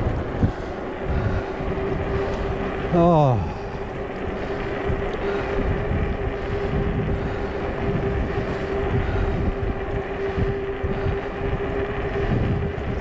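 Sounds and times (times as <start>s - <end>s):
electric motor whine: 0.0s - 13.0s
tyres rumbling: 0.0s - 13.0s
wind noise: 0.0s - 13.0s.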